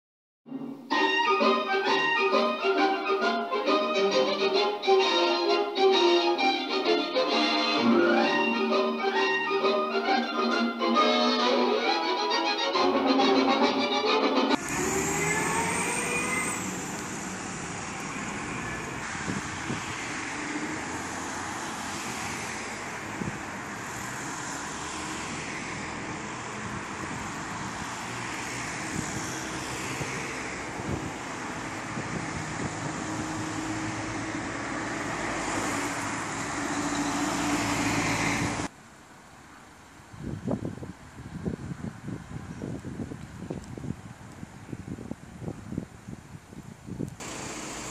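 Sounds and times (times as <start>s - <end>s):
cars and lorry driving past: 0.5s - 42.6s, 47.2s - 47.9s.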